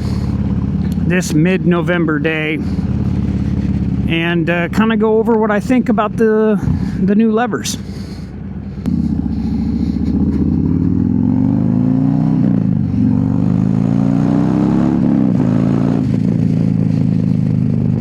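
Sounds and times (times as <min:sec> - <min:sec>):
motorcycle accelerating through gears: 0:00.0 - 0:06.0, 0:07.7 - 0:18.0.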